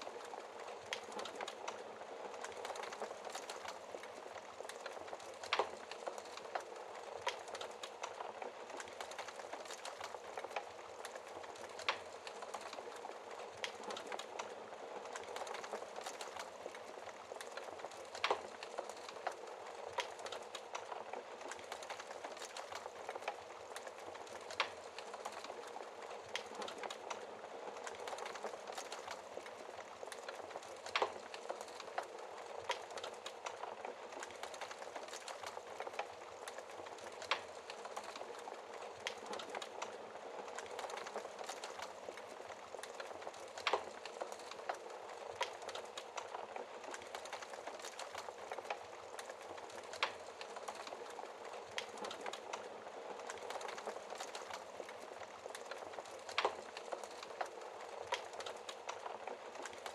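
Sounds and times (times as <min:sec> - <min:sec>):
rain falling: 0:00.0 - 0:59.9
wood fire crackling: 0:00.0 - 0:59.9.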